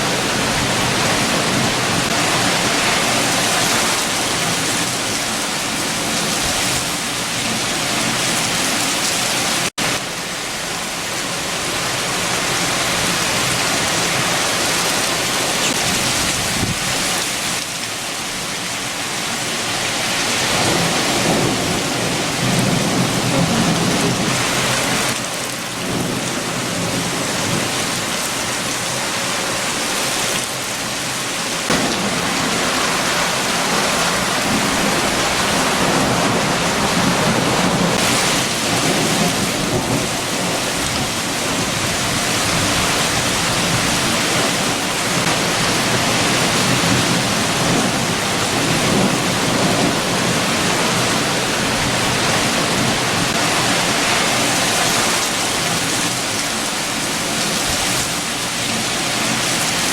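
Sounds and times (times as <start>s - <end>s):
heavy rain: 0.0s - 59.9s
strong wind: 0.0s - 59.9s.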